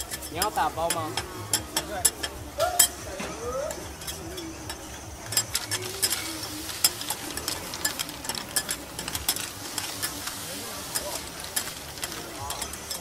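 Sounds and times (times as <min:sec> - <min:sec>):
food sizzling: 0:00.0 - 0:13.0
metal spatulas scraping on griddle: 0:00.0 - 0:13.0.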